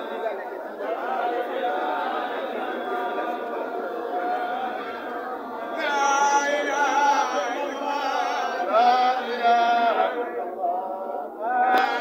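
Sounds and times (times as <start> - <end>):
religious chanting: 0.0 - 12.0.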